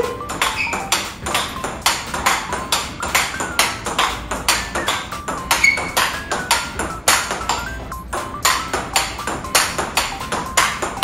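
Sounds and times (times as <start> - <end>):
table tennis ball clicks: 0.0 - 11.0.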